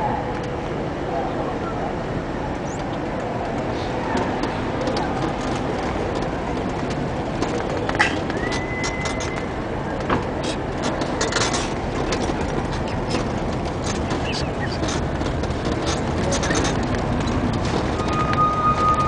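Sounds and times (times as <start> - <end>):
city traffic noise: 0.0 - 19.0.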